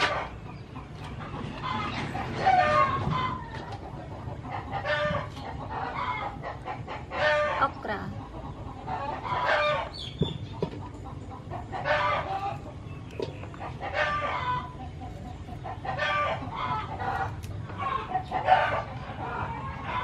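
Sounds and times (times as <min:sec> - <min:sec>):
chickens calling: 0:00.0 - 0:20.0.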